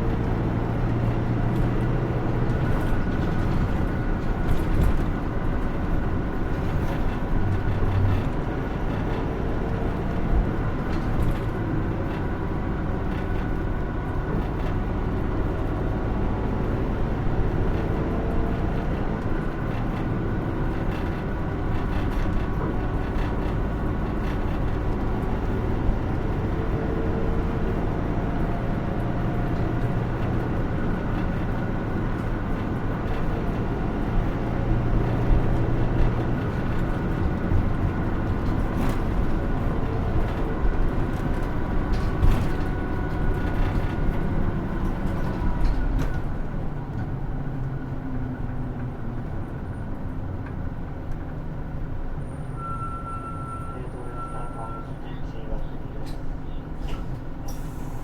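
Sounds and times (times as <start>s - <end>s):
bus engine drone: 0.0s - 58.0s
low rumble of road noise: 0.0s - 58.0s.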